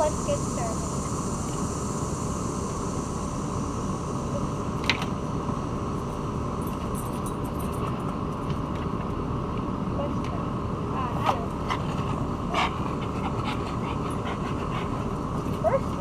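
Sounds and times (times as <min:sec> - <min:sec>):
air conditioner humming: 0:00.0 - 0:16.0
insects droning: 0:00.0 - 0:16.0.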